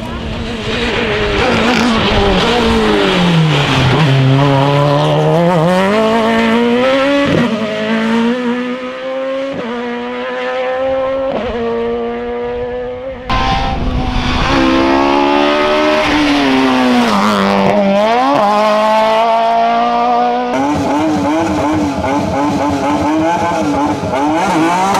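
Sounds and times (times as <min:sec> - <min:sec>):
rally car engine at high revs: 0:00.0 - 0:24.9.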